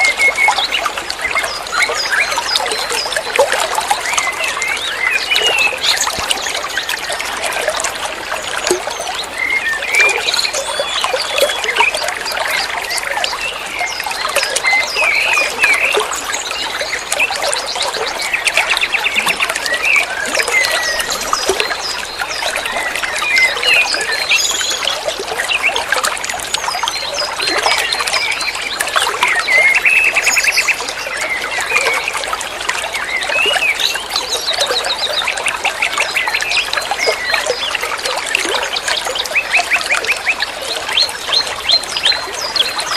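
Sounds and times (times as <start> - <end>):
small birds chirping and trilling: 0.0 - 42.9
water trickling and splashing: 0.0 - 42.9.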